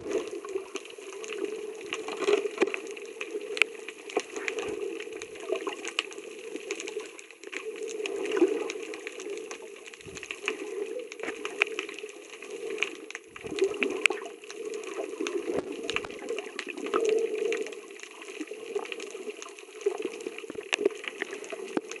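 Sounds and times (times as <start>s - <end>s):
muffled underwater sloshing: 0.0s - 22.0s
sharp underwater clicks and crackles: 0.0s - 22.0s.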